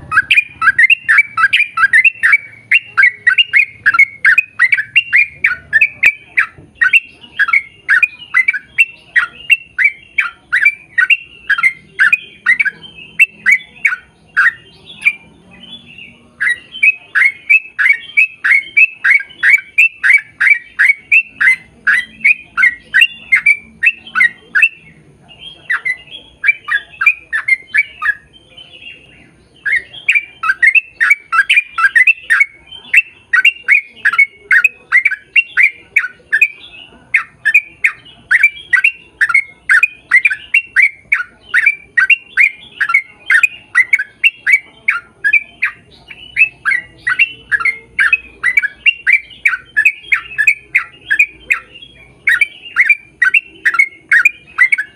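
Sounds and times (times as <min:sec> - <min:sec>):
bird calling harshly: 0:00.0 - 0:54.9.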